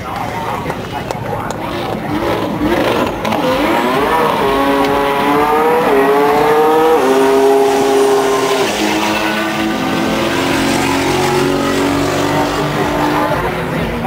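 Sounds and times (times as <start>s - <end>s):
car engine accelerating hard: 1.4s - 14.0s.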